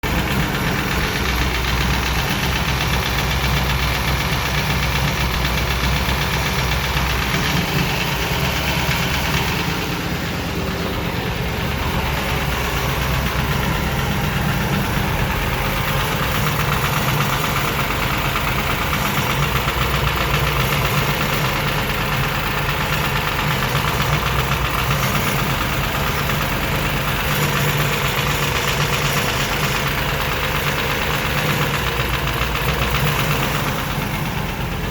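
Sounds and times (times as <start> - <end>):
engine idling: 0.0 - 34.9
rapid lifter ticking: 0.0 - 34.9.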